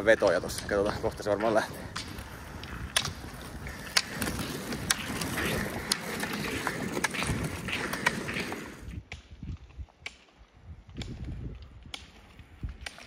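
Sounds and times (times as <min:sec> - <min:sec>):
roller skis rolling on asphalt: 0:00.0 - 0:13.0
ski pole tips clicking on pavement: 0:00.0 - 0:13.0.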